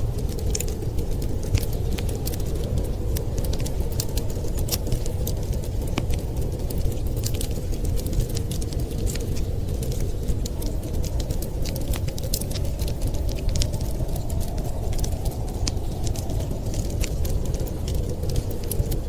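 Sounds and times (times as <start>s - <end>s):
blizzard wind rumbling: 0.0s - 19.0s
wood fire crackling: 0.0s - 19.0s.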